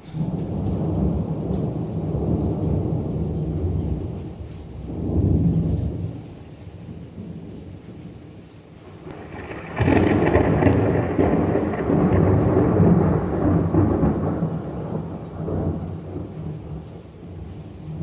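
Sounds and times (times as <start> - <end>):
thunder clap rumbling: 0.0 - 18.0.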